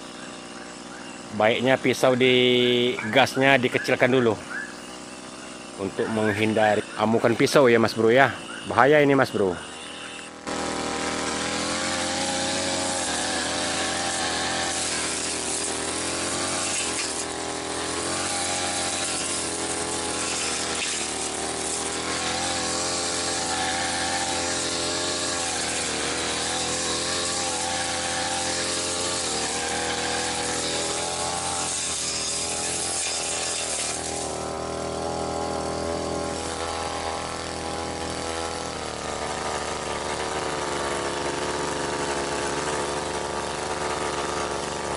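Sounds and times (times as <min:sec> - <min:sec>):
brush cutter cutting weeds: 0:00.0 - 0:44.9.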